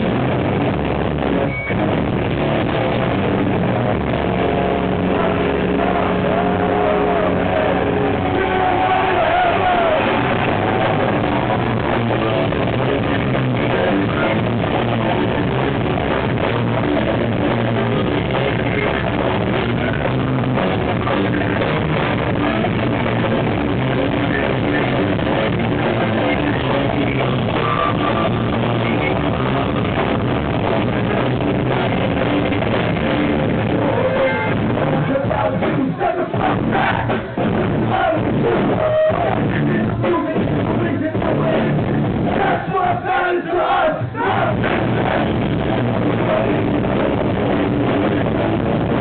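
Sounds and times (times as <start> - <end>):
drum kit: 0.0 - 42.9, 44.0 - 49.0
bass guitar: 0.0 - 49.0
distorted electric guitars: 0.0 - 49.0.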